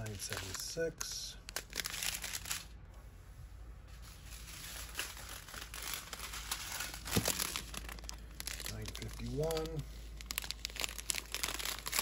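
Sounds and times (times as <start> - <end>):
plastic bags crinkling: 0.0 - 2.8, 4.1 - 12.0.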